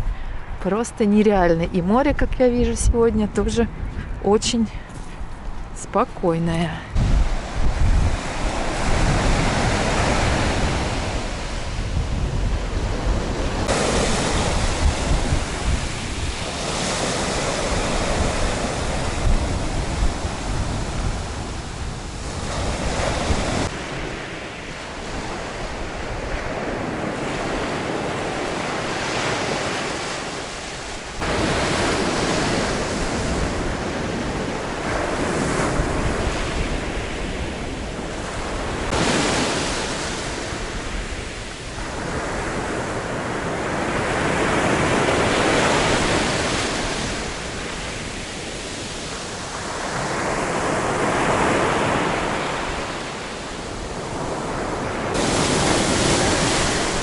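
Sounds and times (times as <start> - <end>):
waves washing up a pebble beach: 7.0 - 57.0.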